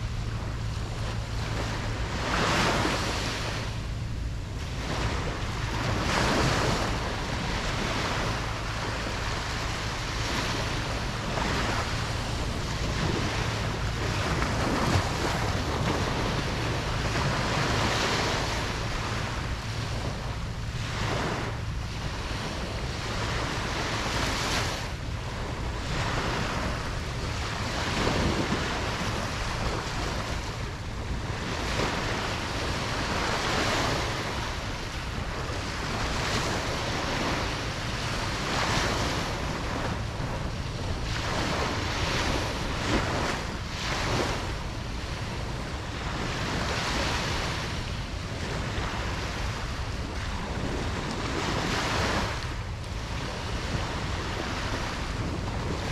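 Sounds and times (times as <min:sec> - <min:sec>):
waves breaking on a beach: 0:00.0 - 0:55.9.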